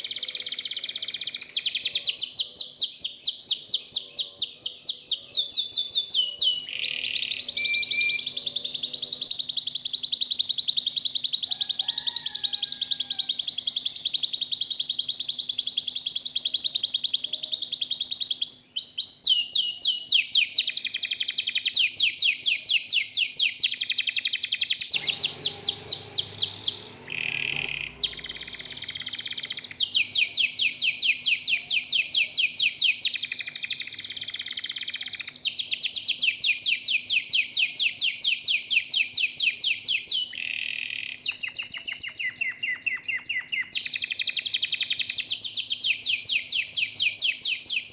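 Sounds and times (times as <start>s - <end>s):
canaries singing trills: 0.0s - 21.4s, 22.0s - 47.9s.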